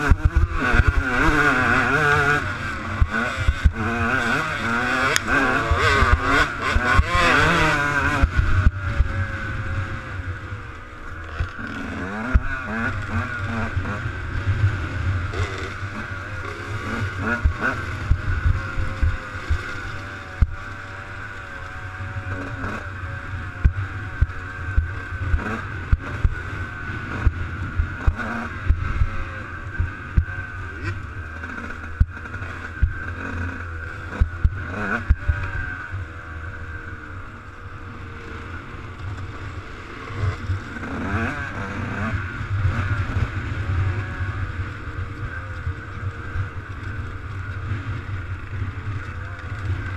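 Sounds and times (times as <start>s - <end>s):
motocross bike engine: 0.0s - 49.9s.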